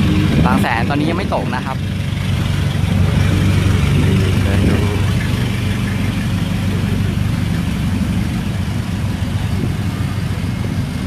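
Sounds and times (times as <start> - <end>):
car engines idling in traffic: 0.0 - 11.0.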